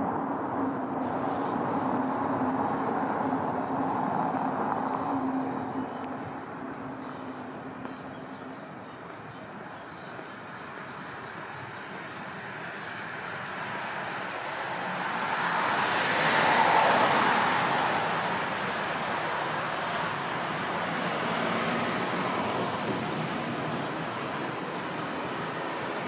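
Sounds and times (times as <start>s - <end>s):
vehicle passing: 0.0s - 25.5s
road traffic noise: 0.0s - 26.0s.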